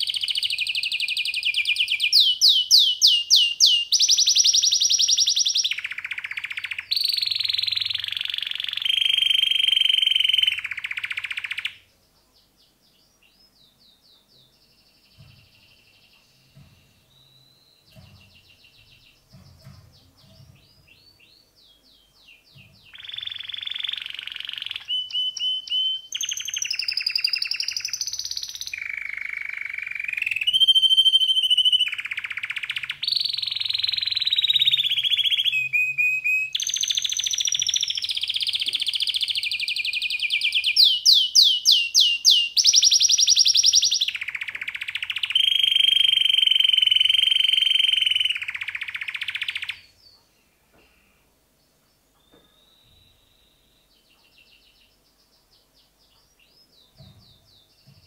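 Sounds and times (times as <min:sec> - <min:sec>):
canary chirps: 0:00.0 - 0:58.0
canary singing: 0:00.0 - 0:58.0.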